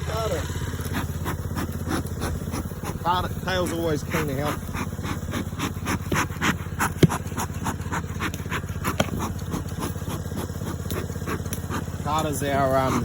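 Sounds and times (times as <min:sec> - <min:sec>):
dog panting: 0:00.9 - 0:13.0.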